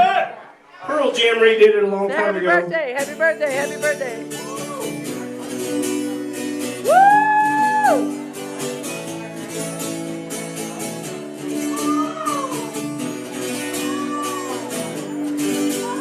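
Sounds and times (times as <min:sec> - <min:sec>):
acoustic guitar strumming: 0:01.2 - 0:16.0.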